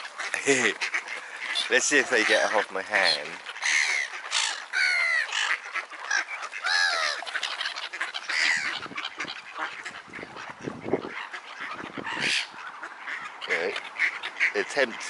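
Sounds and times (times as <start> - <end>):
ducks quacking: 0.0 - 15.0
gulls calling: 0.0 - 15.0.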